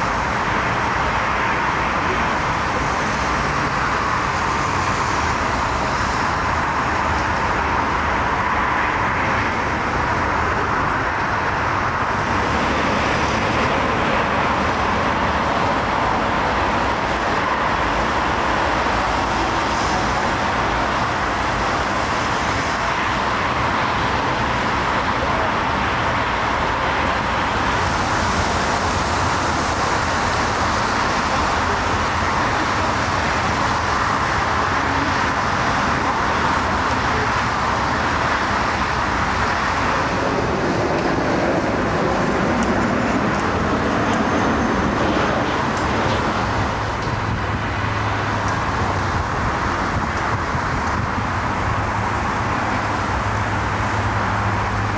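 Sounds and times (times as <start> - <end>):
jet airliners roaring: 0.0 - 54.9
road traffic: 0.0 - 54.9.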